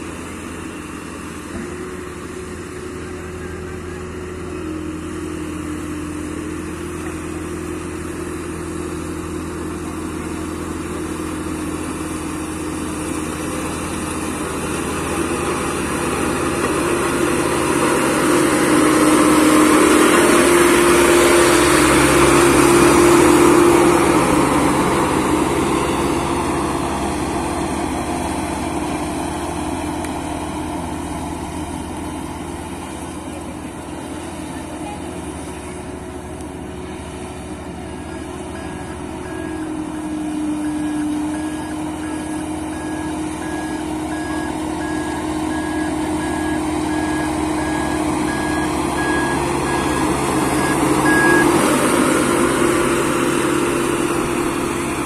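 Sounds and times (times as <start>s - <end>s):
road roller diesel engine: 0.0s - 55.0s.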